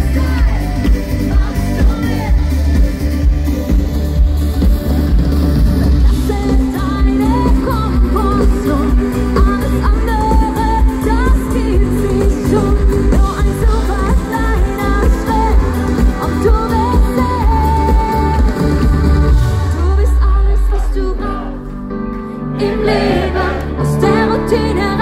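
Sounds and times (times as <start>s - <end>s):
heavy steady bass: 0.0s - 21.2s
pop song sung over full band: 0.0s - 25.0s.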